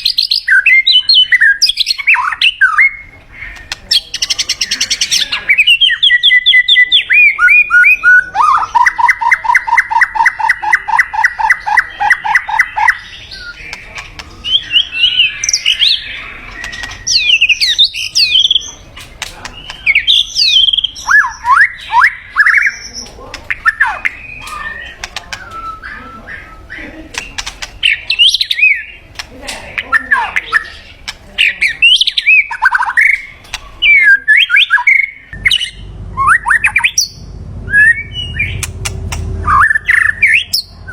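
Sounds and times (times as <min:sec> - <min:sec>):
bird singing: 0:00.0 - 0:40.9.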